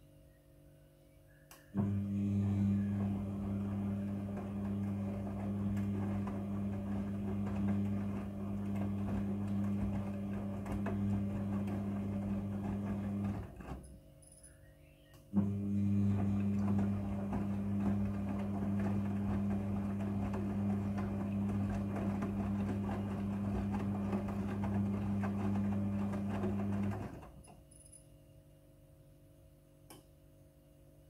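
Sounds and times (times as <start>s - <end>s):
washing machine hum: 1.7s - 14.2s, 15.3s - 27.8s.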